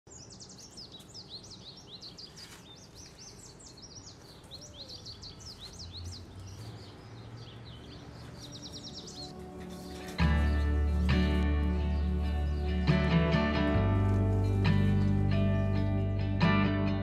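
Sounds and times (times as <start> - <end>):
songbirds chirping: 0.1 - 17.0.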